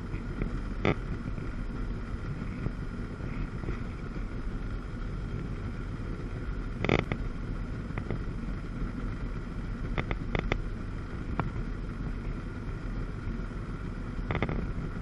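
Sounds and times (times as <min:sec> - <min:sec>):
jet ski engine running: 0:00.0 - 0:15.0
wind and water noise: 0:00.0 - 0:15.0.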